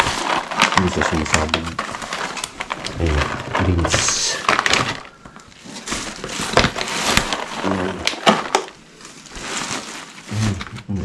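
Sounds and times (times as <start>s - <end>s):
plastic bags rustling and crinkling: 0.0s - 11.0s.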